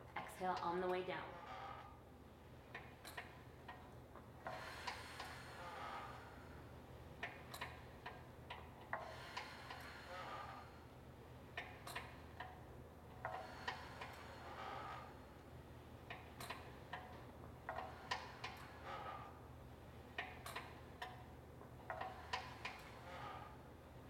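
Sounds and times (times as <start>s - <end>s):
exercise machine clicking and rattling: 0.1s - 2.0s, 2.6s - 24.0s.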